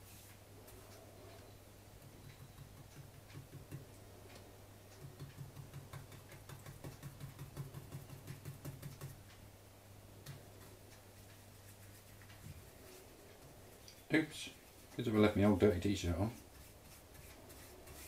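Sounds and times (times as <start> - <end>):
steady low hum: 0.0 - 18.0
paintbrush strokes ticking: 0.1 - 9.5, 10.2 - 14.0, 14.6 - 18.0.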